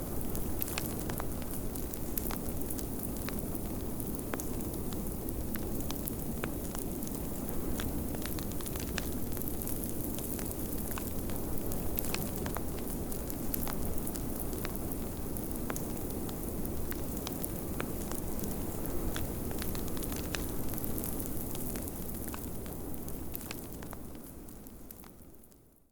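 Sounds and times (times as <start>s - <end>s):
wood fire crackling and popping: 0.0s - 25.6s.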